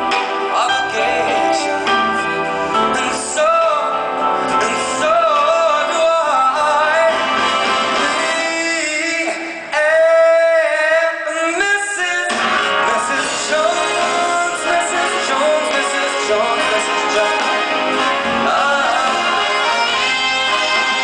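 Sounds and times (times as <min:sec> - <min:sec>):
live big band music: 0:00.0 - 0:21.0.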